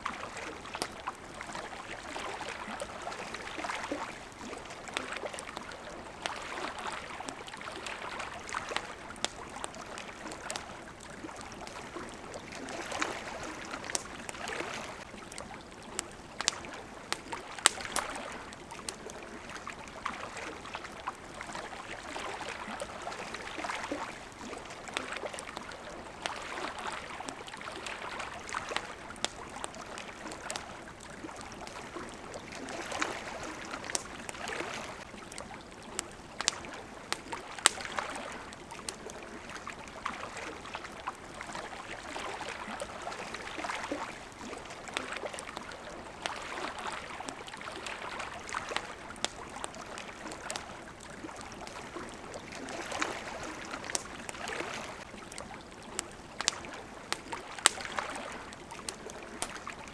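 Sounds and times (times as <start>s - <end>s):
campfire crackling: 0.0s - 59.9s
small waves lapping: 0.0s - 59.9s.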